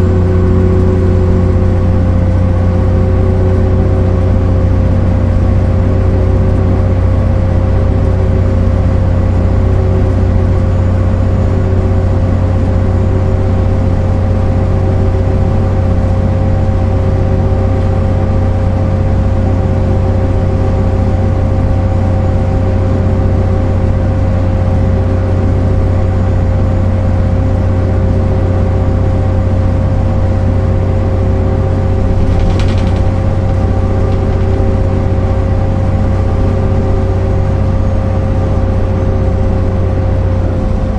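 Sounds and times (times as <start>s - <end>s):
diesel bus engine running: 0.0s - 40.9s
steady whine: 0.0s - 40.9s.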